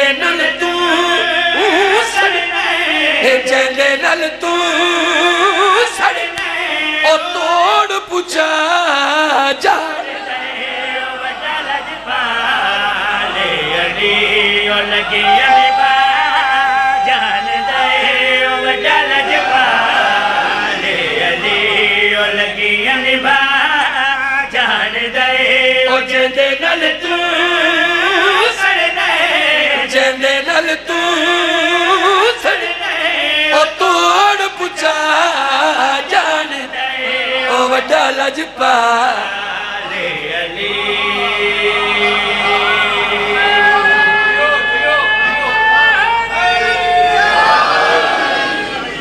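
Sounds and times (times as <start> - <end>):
man singing through loudspeakers: 0.0 - 49.0.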